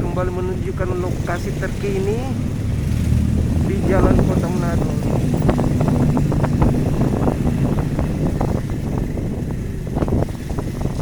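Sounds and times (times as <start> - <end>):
road and tyre noise: 0.0 - 11.0
vehicle engine running: 0.0 - 11.0
wind on microphone: 0.0 - 11.0.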